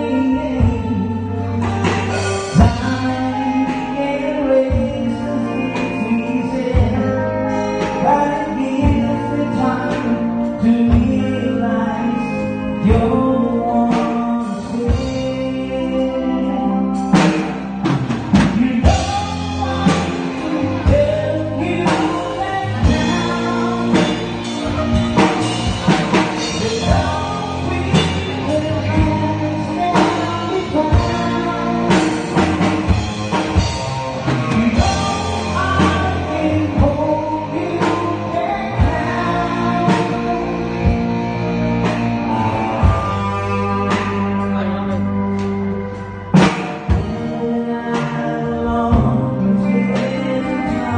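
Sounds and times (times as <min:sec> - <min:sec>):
drum kit beat: 0:00.0 - 0:15.4, 0:17.0 - 0:50.9
live band playing pop-rock: 0:00.0 - 0:50.9
person singing: 0:00.0 - 0:50.9.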